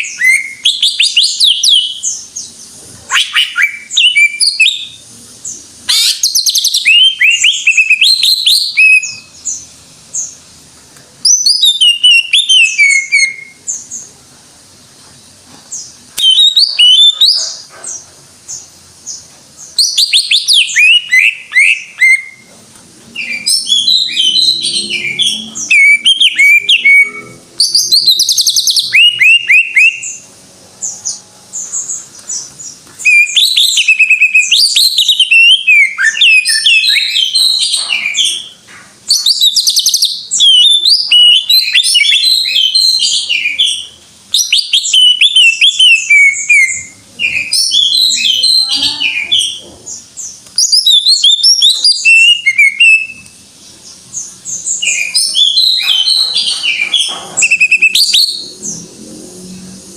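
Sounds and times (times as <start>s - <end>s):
bird singing whistled notes: 0.0s - 2.3s, 3.1s - 5.0s, 5.9s - 10.3s, 11.2s - 13.9s, 16.2s - 17.6s, 19.8s - 22.5s, 23.2s - 30.2s, 31.0s - 49.6s, 50.6s - 53.4s, 54.1s - 58.8s.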